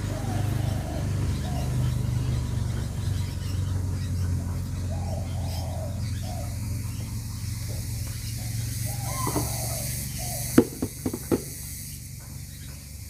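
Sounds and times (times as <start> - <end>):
short bird calls: 0.0 - 12.7
steady low hum: 0.0 - 13.0.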